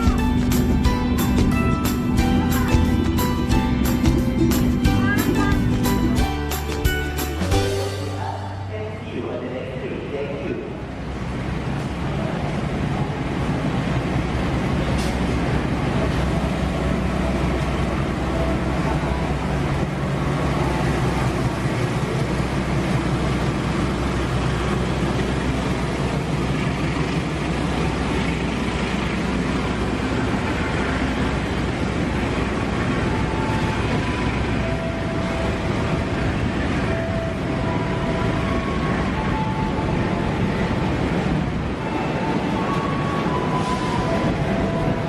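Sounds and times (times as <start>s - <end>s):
passenger train running: 0.0s - 45.0s.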